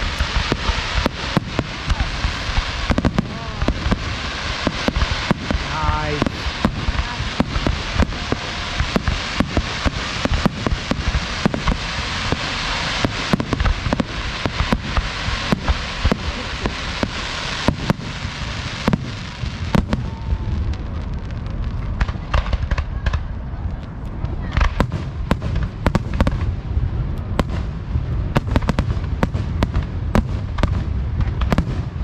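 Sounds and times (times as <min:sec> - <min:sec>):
fireworks sharp bangs: 0:00.0 - 0:23.4, 0:24.2 - 0:32.0
deep fireworks booms: 0:00.0 - 0:32.0
fireworks crackling hiss: 0:00.0 - 0:32.0.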